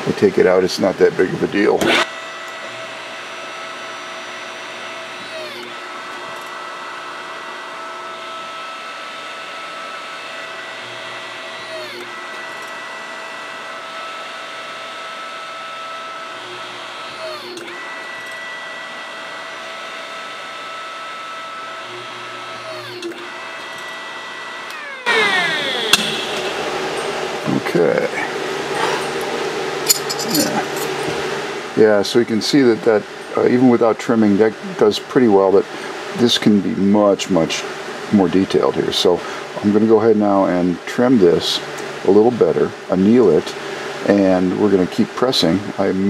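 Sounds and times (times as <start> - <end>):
hydraulic pump motor whine: 1.7 - 40.2.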